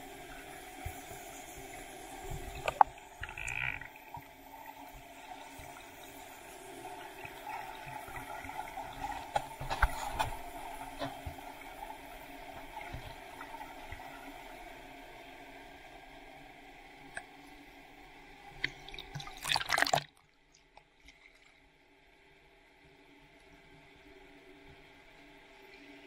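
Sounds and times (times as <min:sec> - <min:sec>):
muffled underwater water noise: 0:00.0 - 0:26.0.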